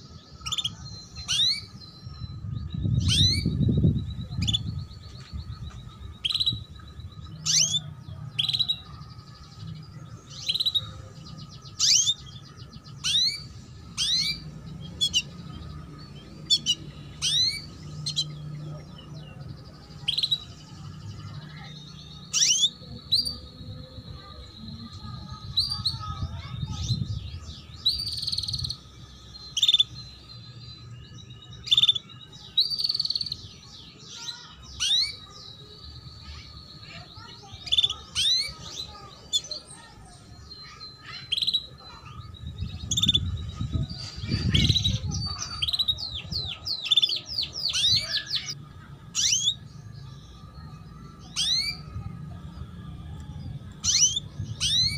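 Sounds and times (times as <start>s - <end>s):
canary chirping: 0.0s - 52.1s, 53.7s - 54.9s.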